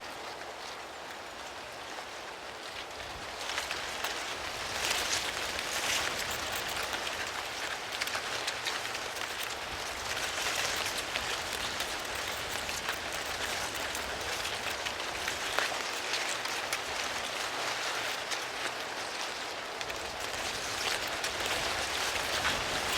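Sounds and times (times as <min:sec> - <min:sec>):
wind rustling dry corn leaves: 0:00.0 - 0:22.9.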